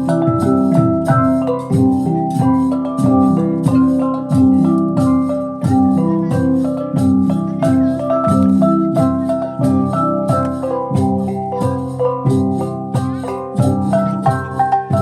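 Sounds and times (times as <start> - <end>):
gong ensemble playing: 0.0 - 15.0.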